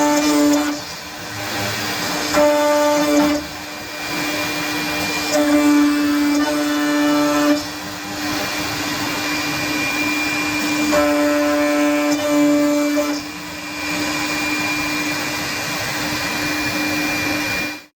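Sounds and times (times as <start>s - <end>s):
router machine whining: 0.0s - 17.9s.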